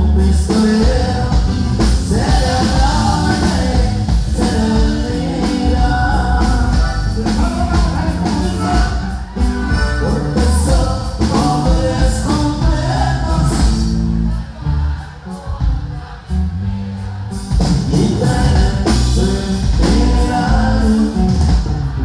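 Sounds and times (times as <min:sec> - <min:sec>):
man singing: 0:00.0 - 0:16.4, 0:17.6 - 0:22.0
band playing: 0:00.0 - 0:22.0
drums: 0:00.0 - 0:22.0
electric bass: 0:00.0 - 0:22.0.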